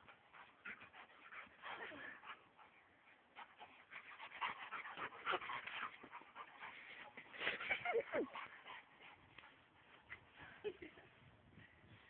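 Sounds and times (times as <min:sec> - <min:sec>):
dogs panting: 0:00.0 - 0:11.2.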